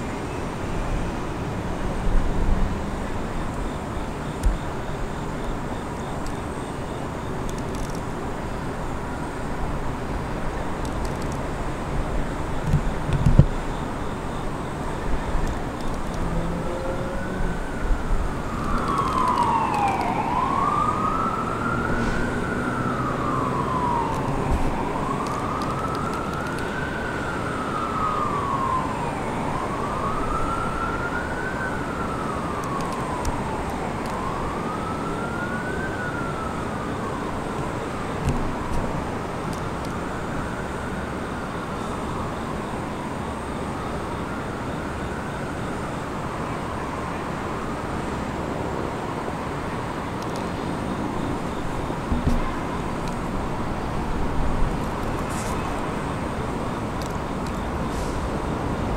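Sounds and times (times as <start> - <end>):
siren wailing: 2.3 - 58.9.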